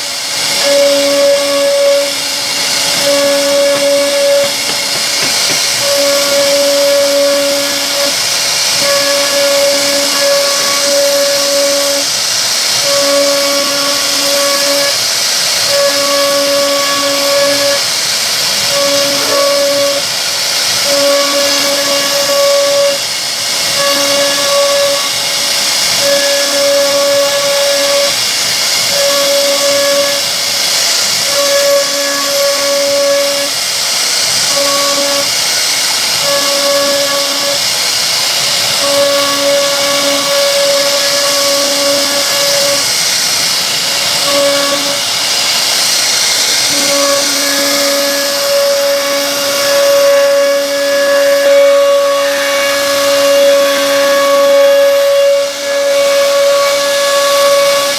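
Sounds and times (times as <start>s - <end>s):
pitched machine hum: 0.0s - 57.9s
wood router spindle hissing: 0.0s - 57.9s.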